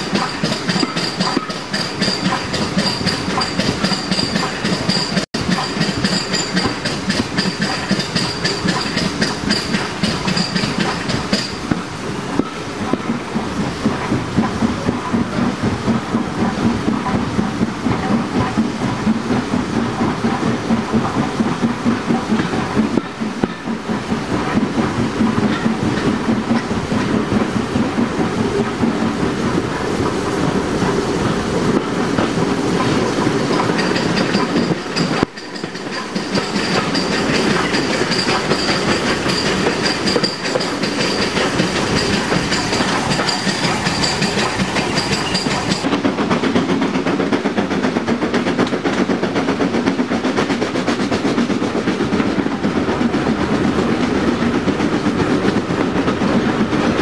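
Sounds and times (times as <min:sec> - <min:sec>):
train wheels clattering over rail joints: 0:00.0 - 0:57.0.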